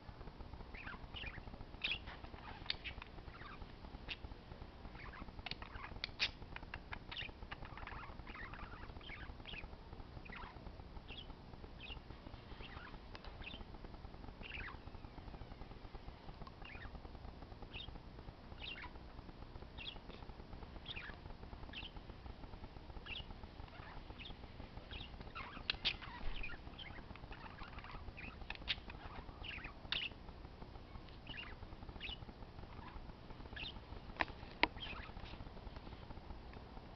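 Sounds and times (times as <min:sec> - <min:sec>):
parakeets chirping: 0:00.6 - 0:15.7, 0:16.5 - 0:19.0, 0:19.6 - 0:22.1, 0:22.9 - 0:35.4.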